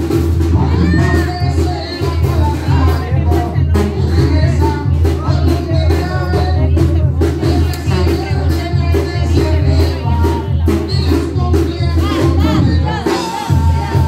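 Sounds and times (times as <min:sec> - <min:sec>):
drum strokes: 0:00.0 - 0:14.0
saxophone and brass melody: 0:00.0 - 0:14.0
sousaphone bass line: 0:00.0 - 0:14.0.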